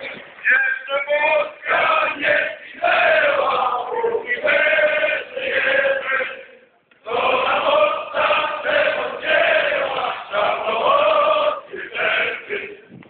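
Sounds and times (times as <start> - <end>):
men singing in unison: 1.2 - 12.8.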